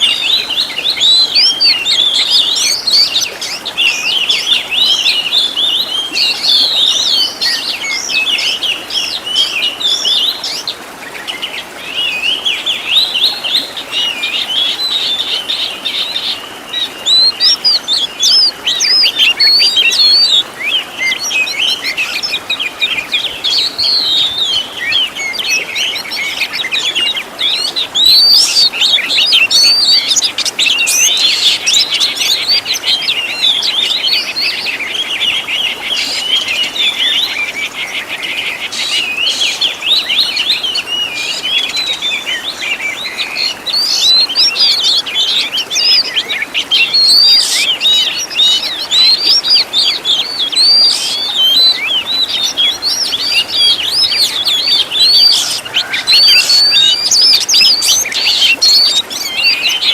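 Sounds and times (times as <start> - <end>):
songbird singing chirps and whistles: 0.0 - 59.9.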